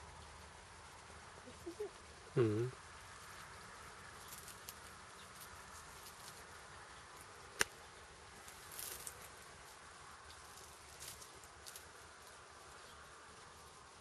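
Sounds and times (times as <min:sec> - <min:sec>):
insect hum: 0:00.0 - 0:14.0.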